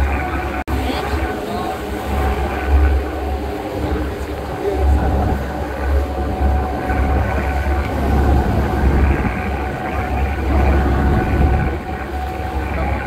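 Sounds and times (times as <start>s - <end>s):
boat engine running: 0.0s - 13.0s
wind on microphone: 0.0s - 13.0s.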